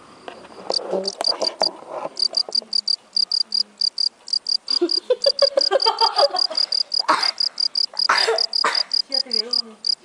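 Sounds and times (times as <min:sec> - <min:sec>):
insect chirping: 0:00.1 - 0:10.0.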